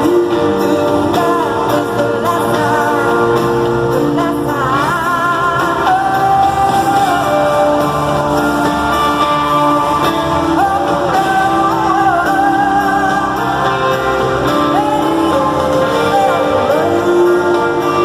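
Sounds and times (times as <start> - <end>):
full band playing: 0.0 - 18.0
woman singing pop ballad: 0.0 - 18.0.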